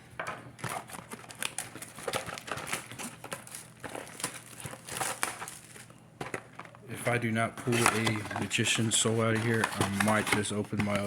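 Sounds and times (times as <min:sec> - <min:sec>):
card packaging crinkling: 0:00.6 - 0:11.0.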